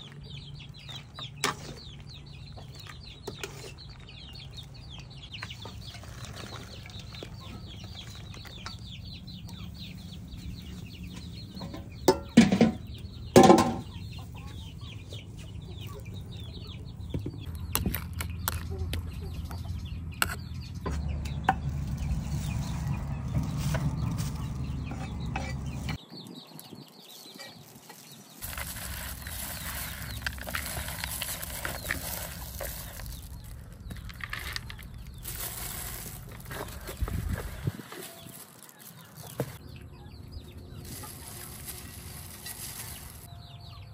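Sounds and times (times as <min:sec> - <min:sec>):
chickens clucking: 0:00.0 - 0:26.0, 0:26.7 - 0:43.9
birds cheeping rapidly: 0:00.0 - 0:43.9.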